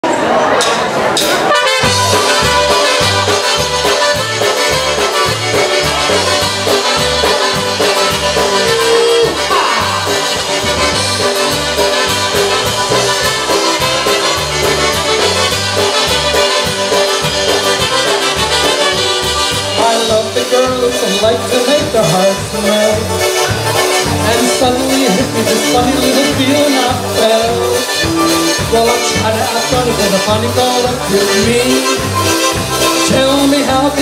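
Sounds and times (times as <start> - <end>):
drums: 0.0 - 34.0
bass guitar: 1.1 - 34.0
trumpets playing tune: 1.3 - 34.0
accordion: 1.4 - 34.0.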